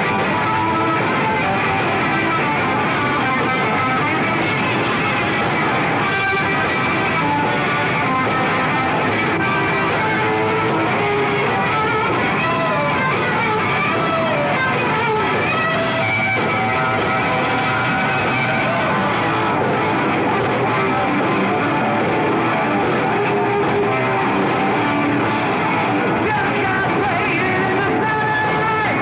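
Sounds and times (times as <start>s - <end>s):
heavy metal band playing live: 0.0s - 29.0s.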